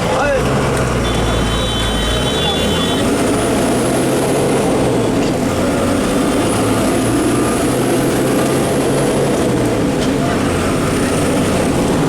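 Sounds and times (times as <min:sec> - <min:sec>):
bus diesel engine running: 0:00.0 - 0:12.0
road noise: 0:00.0 - 0:12.0.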